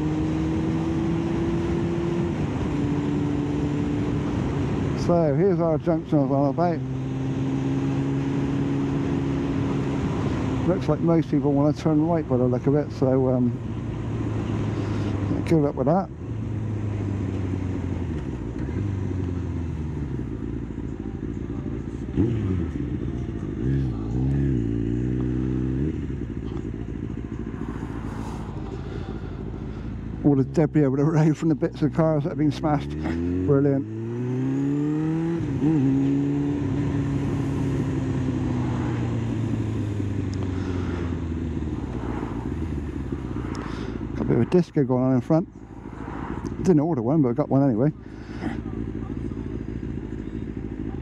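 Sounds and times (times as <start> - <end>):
motorcycle engine at low revs: 0.0 - 51.0.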